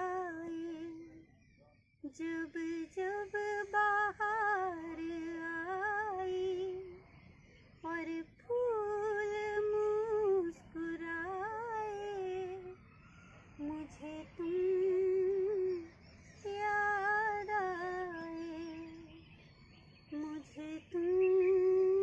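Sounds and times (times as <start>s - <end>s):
woman singing unaccompanied: 0.0s - 1.2s, 2.0s - 7.0s, 7.8s - 12.8s, 13.6s - 19.4s, 20.0s - 22.0s.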